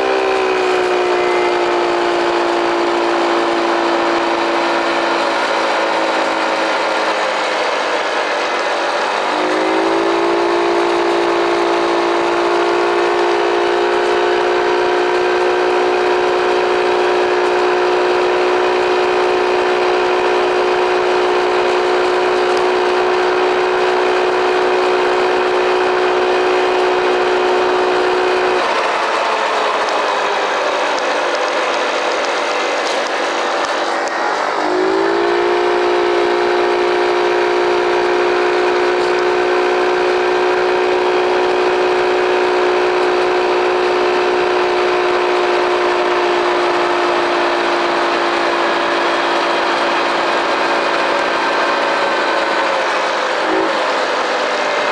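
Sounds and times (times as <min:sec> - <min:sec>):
small engine revving: 0:00.0 - 0:54.9.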